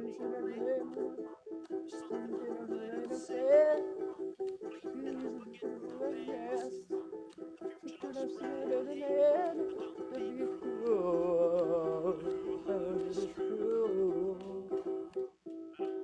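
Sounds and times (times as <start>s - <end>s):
man singing wordless melody: 0.0s - 1.2s, 1.8s - 15.1s.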